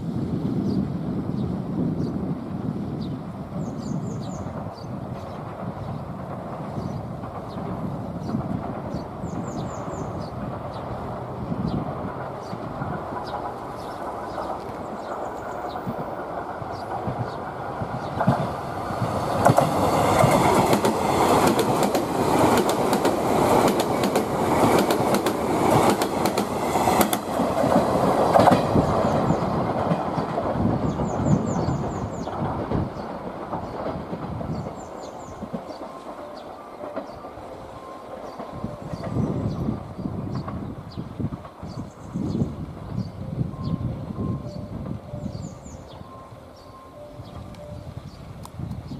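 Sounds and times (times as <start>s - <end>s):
train wheels rumbling on rails: 0.0s - 48.9s
clickety-clack over rail joints: 3.6s - 46.2s.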